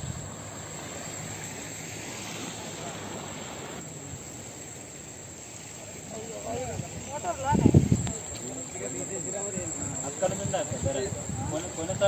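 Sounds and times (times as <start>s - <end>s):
fast-flowing floodwater rushing: 0.0s - 12.0s.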